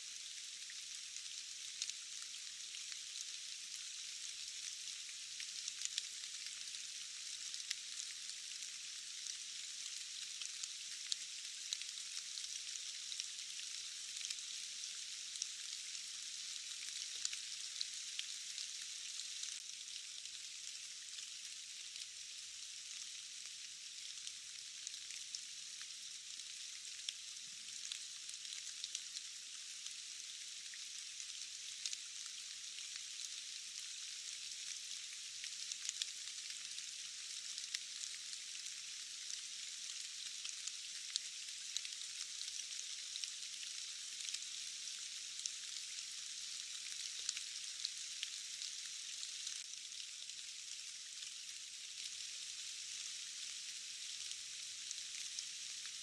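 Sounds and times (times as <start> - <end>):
steady rain falling: 0.6 - 56.0.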